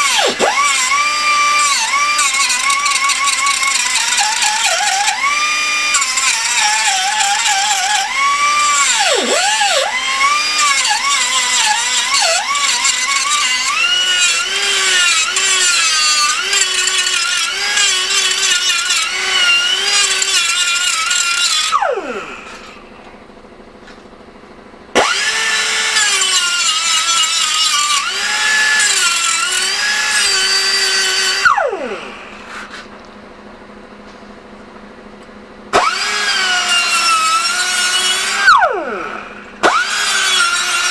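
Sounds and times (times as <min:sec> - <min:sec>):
angle grinder grinding metal: 0:00.0 - 0:22.8, 0:25.0 - 0:32.9, 0:35.8 - 0:40.9.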